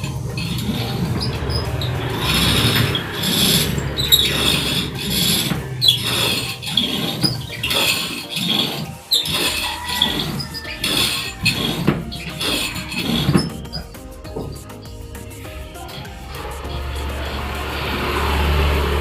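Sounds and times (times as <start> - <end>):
cross-trainer squeaking and creaking: 0.0 - 19.0.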